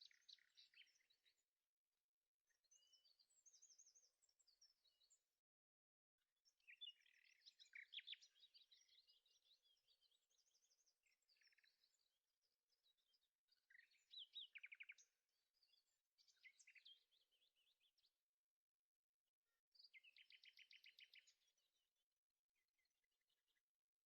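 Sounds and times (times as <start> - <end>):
faint songbird chirping: 0.0 - 24.0.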